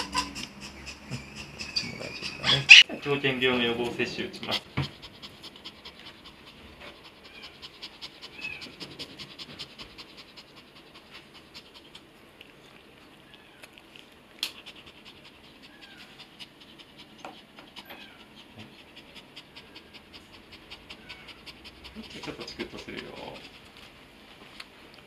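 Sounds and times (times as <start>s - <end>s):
dog panting: 0.0s - 12.8s, 14.4s - 24.3s.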